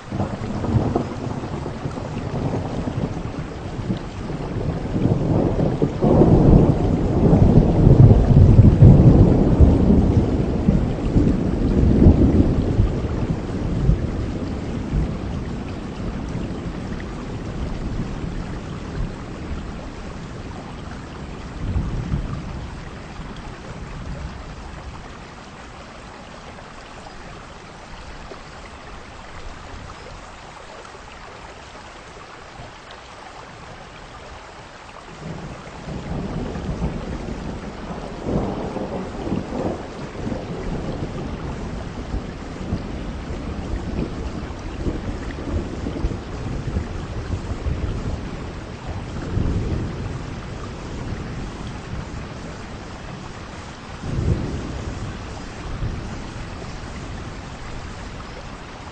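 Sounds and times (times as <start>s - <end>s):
thunder rolling: 0.0s - 25.1s, 35.2s - 58.9s
heavy rain falling: 0.0s - 58.9s.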